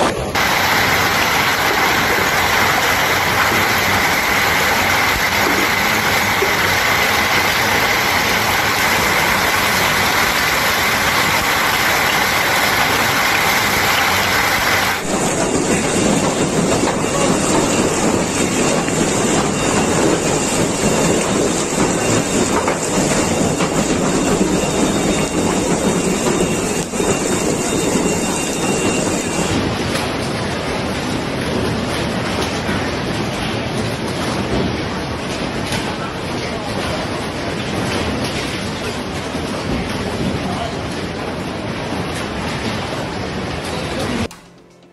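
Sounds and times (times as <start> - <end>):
hailstorm heard from indoors: 0.0 - 44.5
heavy hail clattering: 0.3 - 44.3.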